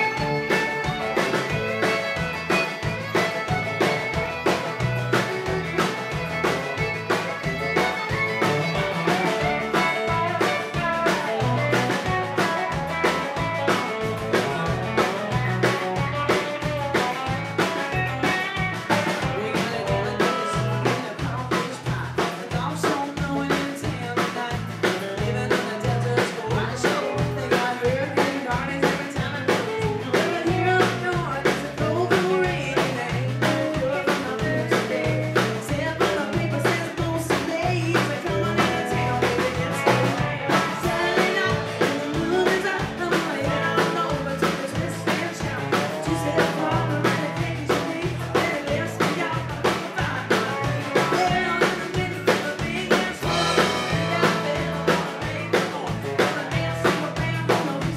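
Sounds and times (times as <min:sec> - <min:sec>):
acoustic and electric guitars: 0:00.0 - 0:57.9
drum kit beat: 0:00.0 - 0:57.9
fiddle: 0:00.0 - 0:57.9.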